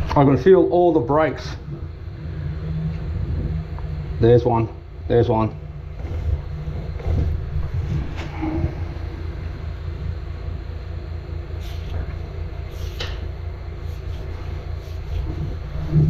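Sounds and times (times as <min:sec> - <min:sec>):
drain jetter pulsing drone: 0:00.0 - 0:16.0.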